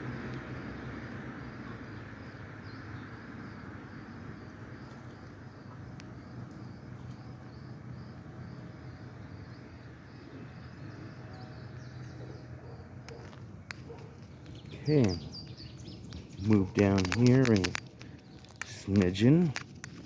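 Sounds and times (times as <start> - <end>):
low outdoor rumble: 0.0 - 20.0
small bird chirping: 2.2 - 20.0.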